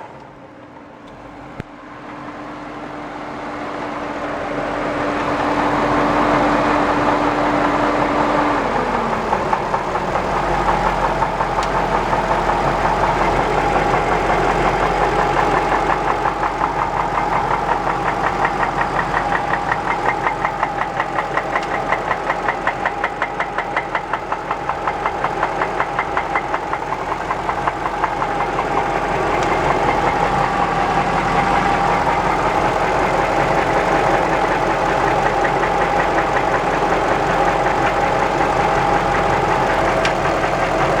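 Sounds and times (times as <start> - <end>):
engine knocking: 3.3 - 41.0.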